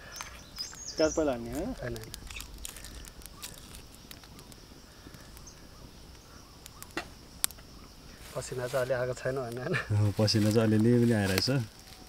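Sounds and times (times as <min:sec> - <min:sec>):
faint high hiss: 0:00.0 - 0:12.0.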